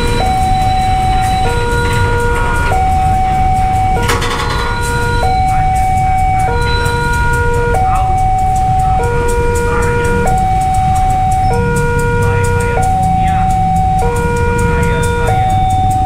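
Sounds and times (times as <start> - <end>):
freight train rumbling past: 0.0 - 16.0
level crossing alarm two tones: 0.0 - 16.0.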